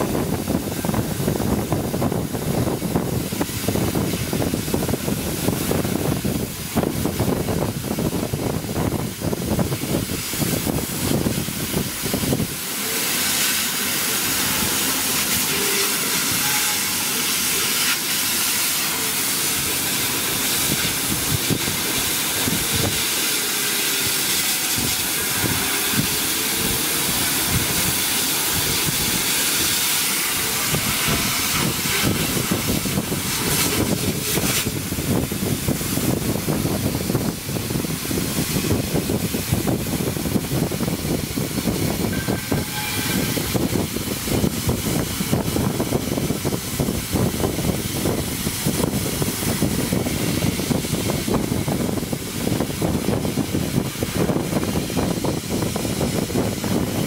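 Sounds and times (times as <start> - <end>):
air hissing through nozzle: 0.0 - 57.0.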